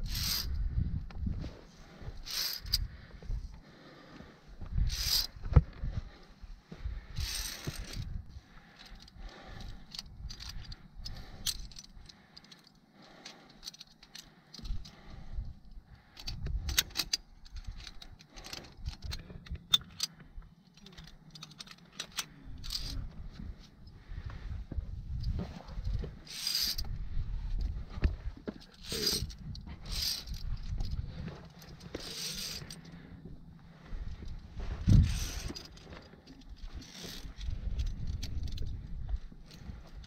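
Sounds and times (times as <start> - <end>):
metal climbing gear clinking: 0.0 - 1.4, 2.0 - 5.9, 7.0 - 40.0.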